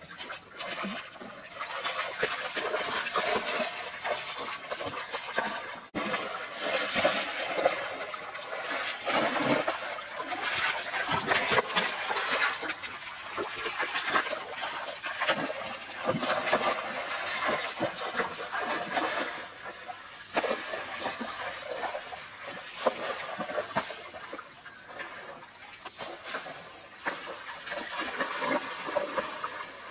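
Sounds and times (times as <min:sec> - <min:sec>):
stream flowing: 0:00.0 - 0:29.9
water splashing: 0:00.0 - 0:29.9.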